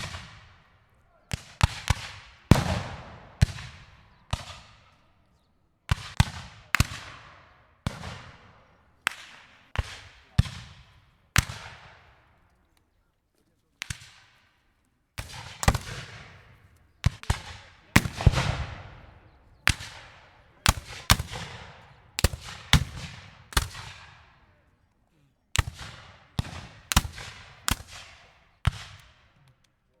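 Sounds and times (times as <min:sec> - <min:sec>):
musket shots echoing: 0:00.0 - 0:05.2, 0:05.9 - 0:12.4, 0:13.8 - 0:14.6, 0:15.2 - 0:24.6, 0:25.6 - 0:29.4.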